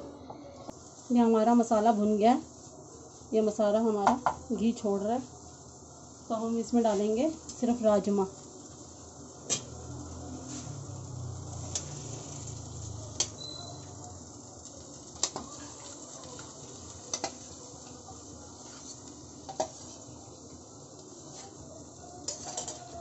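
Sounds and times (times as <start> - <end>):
food sizzling in a pan: 0.6 - 23.0.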